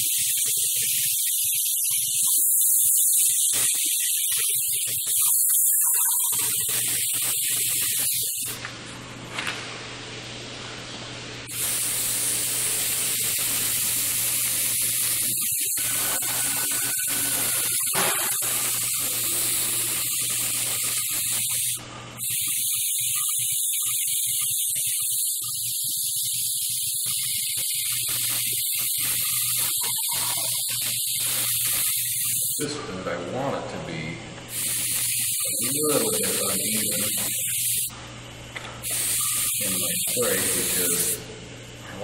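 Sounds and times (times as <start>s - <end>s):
airbrush hissing: 0.0s - 8.6s, 11.5s - 32.7s, 34.5s - 37.9s, 38.8s - 41.2s.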